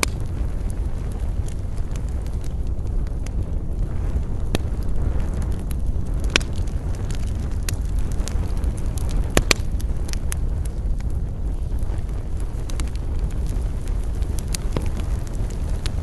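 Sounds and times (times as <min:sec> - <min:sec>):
burning wood crackling and popping: 0:00.0 - 0:16.0
campfire rumble and hiss: 0:00.0 - 0:16.0.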